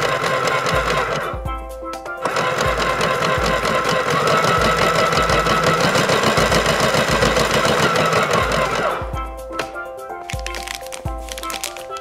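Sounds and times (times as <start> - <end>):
toy speaker electronic crackle: 0.0 - 1.4, 2.2 - 9.1, 10.1 - 12.0.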